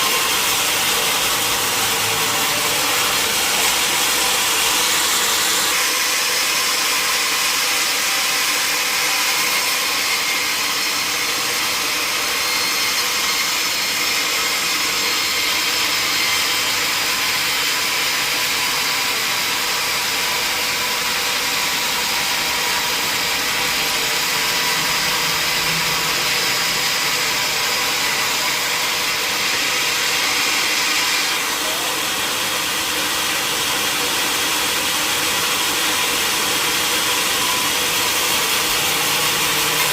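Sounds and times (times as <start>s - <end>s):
sawmill saw hissing and whining: 0.0s - 39.9s.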